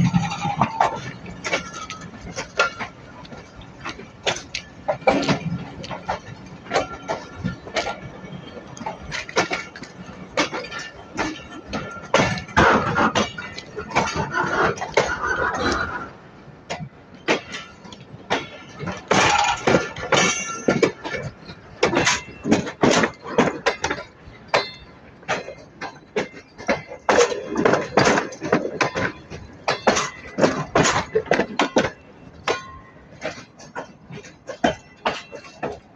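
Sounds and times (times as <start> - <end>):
clinking and clattering knocks: 0.0 - 15.9, 16.7 - 35.9.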